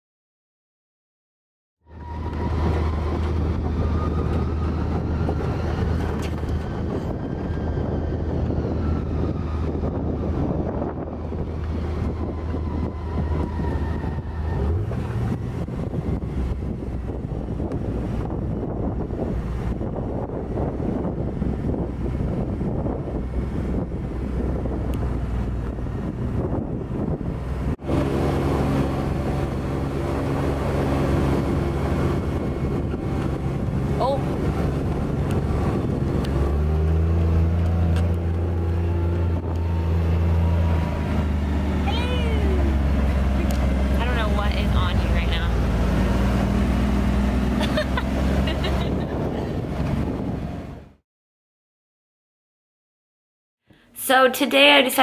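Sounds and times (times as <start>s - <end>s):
engine hum: 1.8s - 51.0s
wind buffeting microphone: 1.9s - 51.0s.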